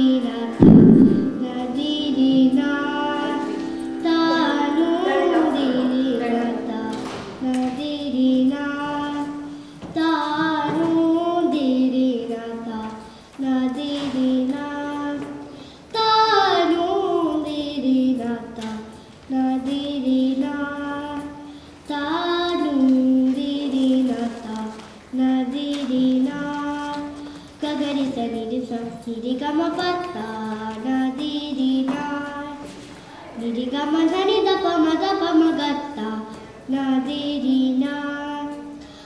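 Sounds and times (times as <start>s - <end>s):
girl singing classical melody: 0.0s - 39.0s.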